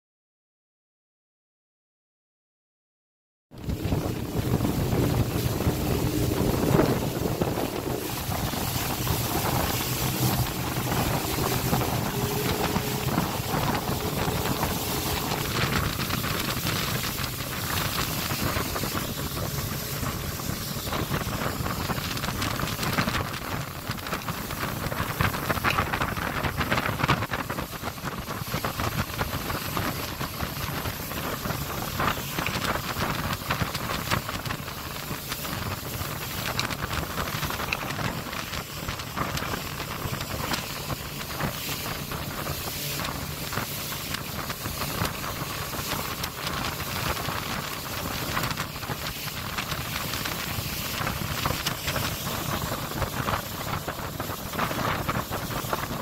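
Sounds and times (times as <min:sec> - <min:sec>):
motorboat engine hum: 0:03.6 - 0:56.0
water rushing past hull: 0:03.6 - 0:56.0
wind buffeting microphone: 0:03.6 - 0:56.0.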